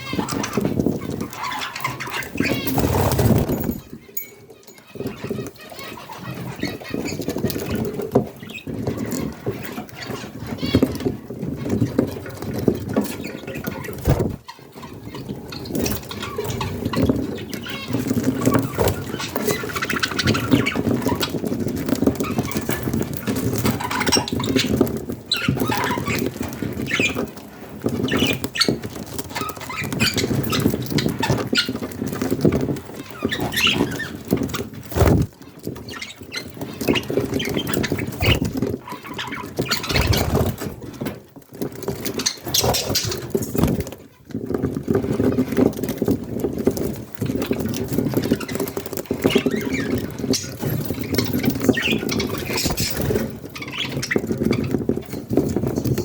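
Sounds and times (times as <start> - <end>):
budgie chicks scratching: 0.0 - 56.0.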